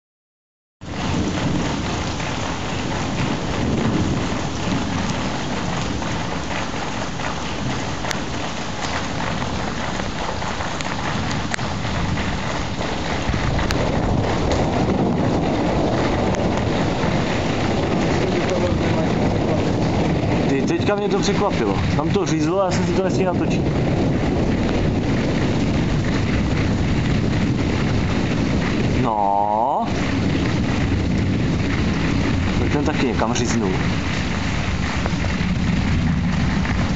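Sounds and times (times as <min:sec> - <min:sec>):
heavy rain falling: 0:00.8 - 0:36.9
low thunder rumble: 0:00.8 - 0:36.9.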